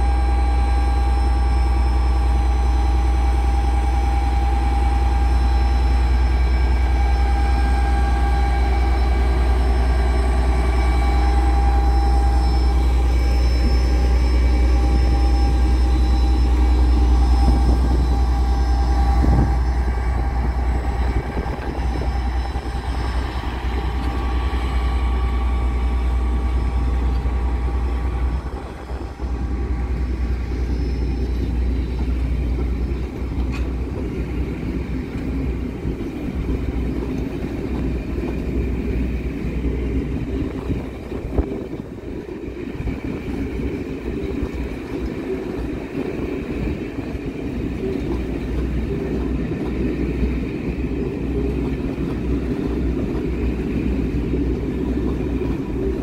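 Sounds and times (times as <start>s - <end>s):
diesel locomotive engine: 0.0s - 56.0s
steady whine: 0.0s - 56.0s.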